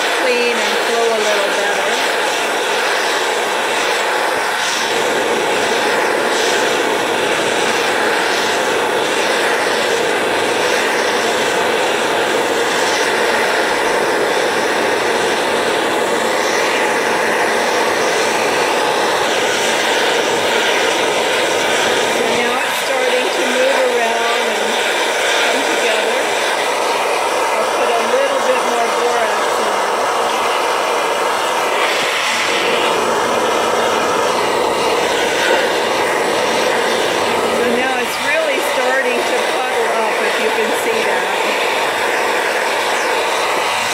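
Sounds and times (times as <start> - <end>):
torch flame hissing: 0.0 - 43.9.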